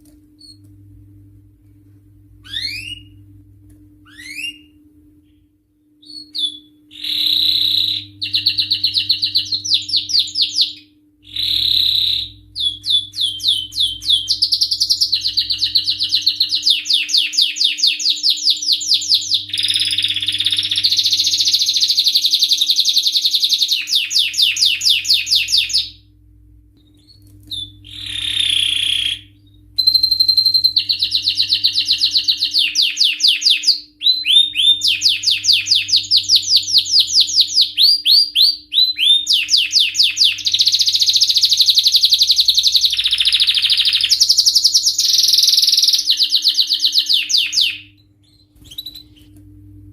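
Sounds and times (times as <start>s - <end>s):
canary singing trills: 2.4s - 3.2s, 4.0s - 4.8s, 6.0s - 26.0s, 26.9s - 49.3s.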